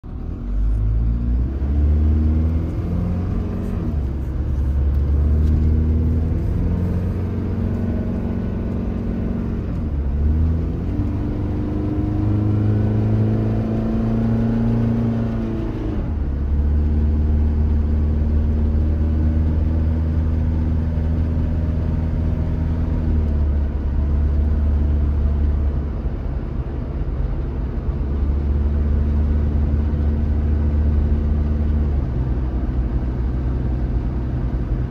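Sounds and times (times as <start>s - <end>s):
diesel engine accelerating: 0.0s - 34.9s.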